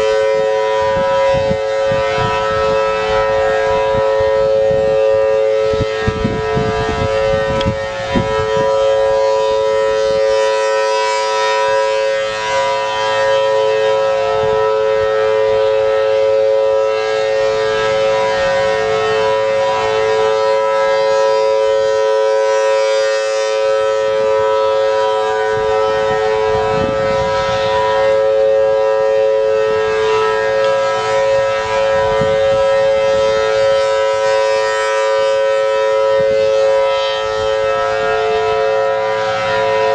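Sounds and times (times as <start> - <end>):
warning siren steady chord tone: 0.0 - 39.9.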